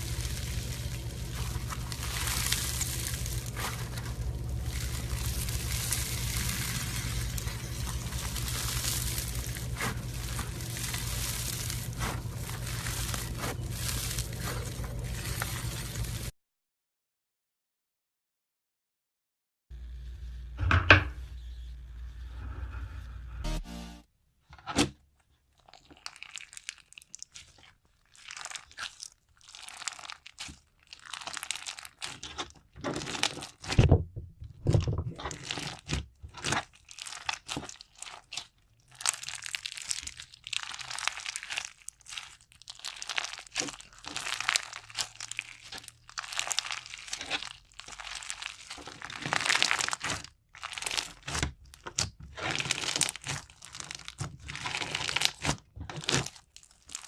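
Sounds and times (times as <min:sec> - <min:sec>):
slime squished by hand: 0:00.0 - 0:16.3, 0:25.6 - 0:33.8, 0:35.2 - 0:57.0.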